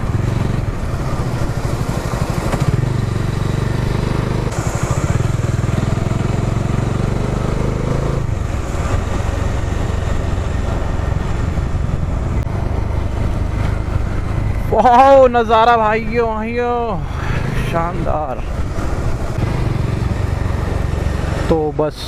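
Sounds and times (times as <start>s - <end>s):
motorcycle engine running: 0.0s - 14.8s, 18.3s - 21.7s.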